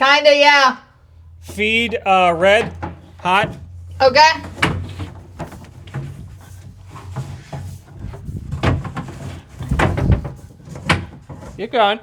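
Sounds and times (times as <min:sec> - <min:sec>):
tubing scraping and knocking on wood: 0:01.0 - 0:12.0.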